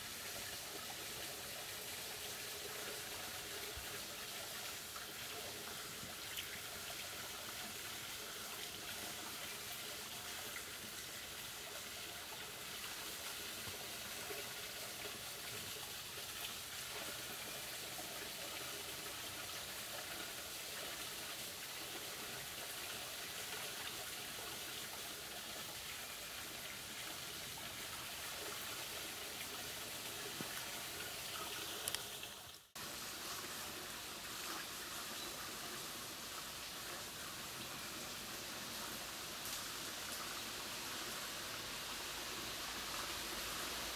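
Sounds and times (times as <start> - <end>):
running water from a spring: 0.0 - 43.9.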